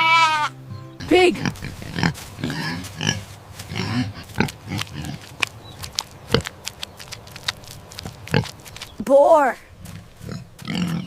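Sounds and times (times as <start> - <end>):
pig grunting: 1.0 - 8.8, 9.8 - 11.0.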